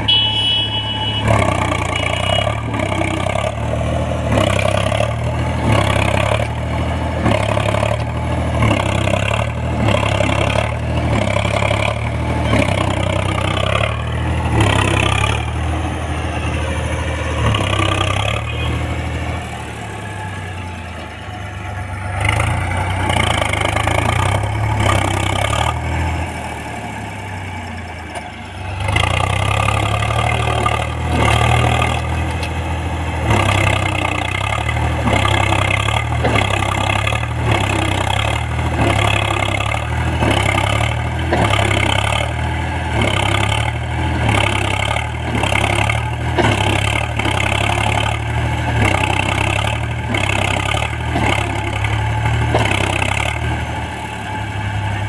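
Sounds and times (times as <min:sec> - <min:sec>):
diesel tractor engine working hard: 0:00.0 - 0:55.0.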